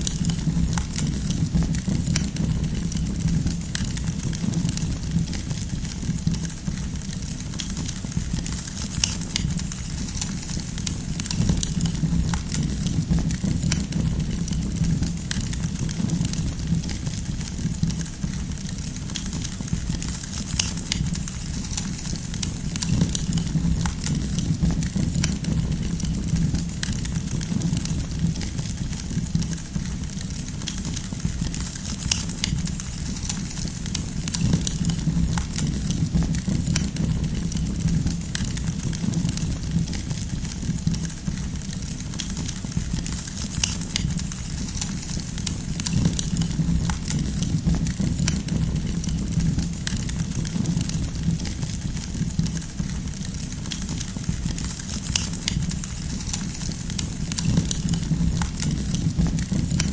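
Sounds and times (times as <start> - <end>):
campfire crackling and popping: 0.0 - 59.9
steady low rumble: 0.0 - 59.9.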